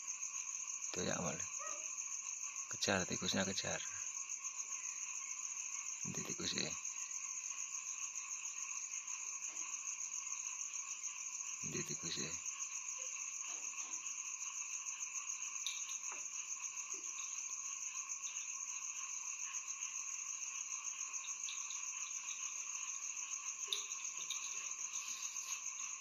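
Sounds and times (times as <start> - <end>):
night insects trilling: 0.0 - 26.0.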